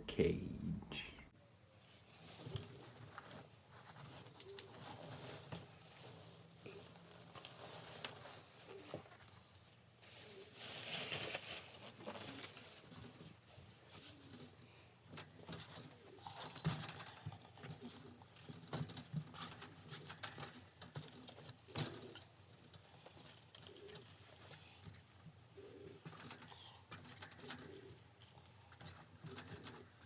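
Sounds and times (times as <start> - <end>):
rustling of cage bedding: 1.7 - 30.0.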